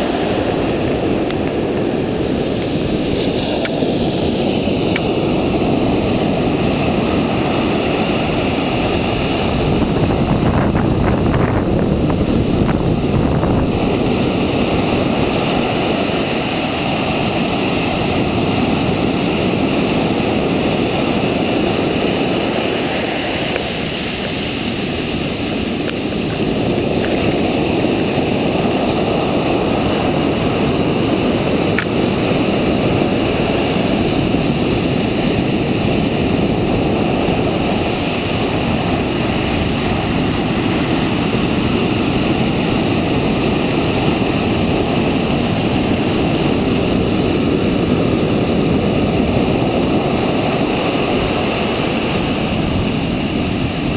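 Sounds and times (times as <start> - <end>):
ocean surf breaking on sand: 0.0 - 53.9.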